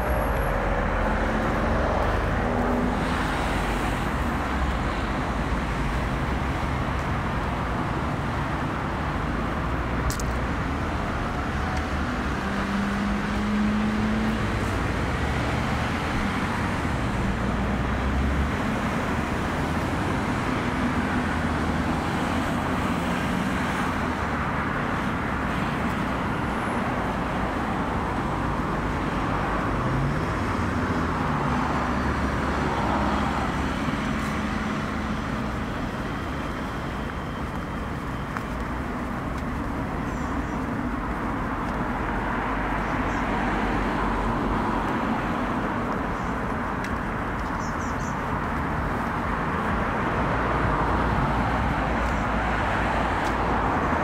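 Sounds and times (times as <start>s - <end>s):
vehicles driving past: 0.0s - 54.0s.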